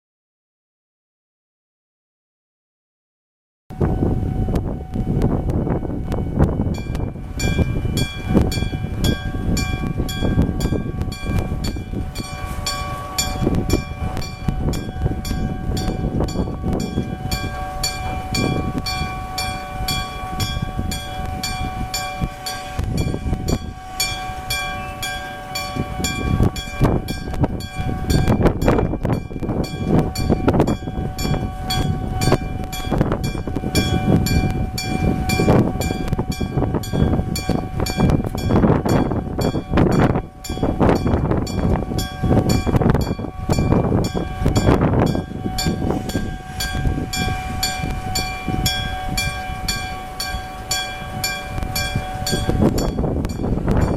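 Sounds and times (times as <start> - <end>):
train rumbling past: 3.7 - 53.9
level crossing warning bell: 4.6 - 53.9.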